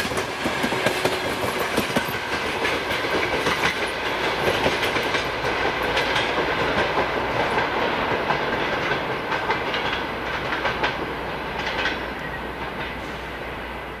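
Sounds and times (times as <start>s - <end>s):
train wheels clattering on rail joints: 0.0s - 13.6s.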